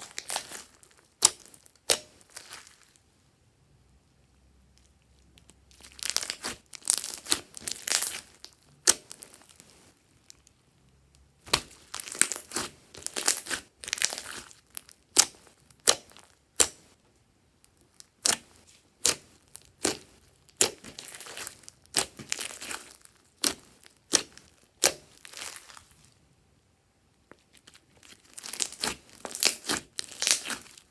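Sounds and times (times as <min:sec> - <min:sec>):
slime crackling and popping: 0:00.0 - 0:03.0, 0:05.4 - 0:10.6, 0:11.4 - 0:16.9, 0:17.7 - 0:26.1, 0:27.5 - 0:30.9.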